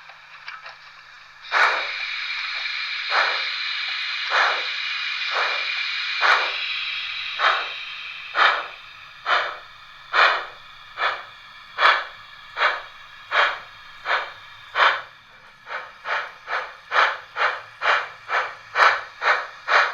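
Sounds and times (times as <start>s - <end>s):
model steam locomotive chuffs: 0.0s - 19.9s
steam hiss: 0.0s - 19.9s.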